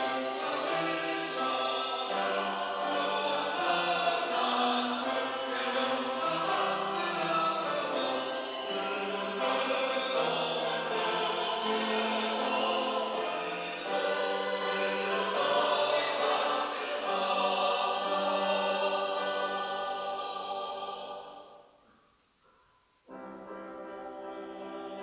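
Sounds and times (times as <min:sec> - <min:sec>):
choir singing in harmony: 0:00.0 - 0:21.7, 0:23.8 - 0:25.0.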